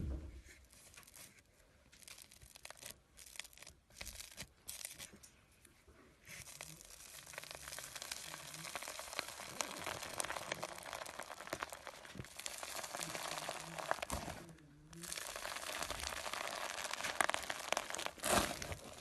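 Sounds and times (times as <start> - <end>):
slime crackling and popping: 0.7 - 5.2, 6.2 - 19.0.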